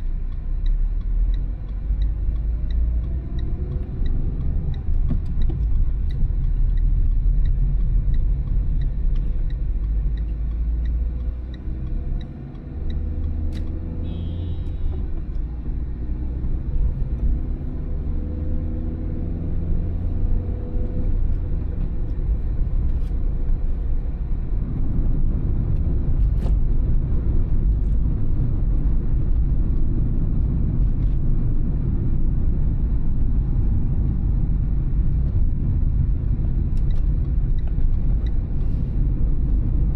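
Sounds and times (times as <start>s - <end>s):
road rumble: 0.0s - 39.9s
car engine accelerating: 0.7s - 39.9s.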